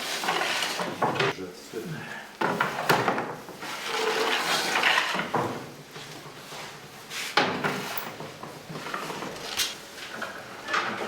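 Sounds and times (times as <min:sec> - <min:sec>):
bakery tools scraping and knocking: 0:00.0 - 0:01.4, 0:02.4 - 0:11.0.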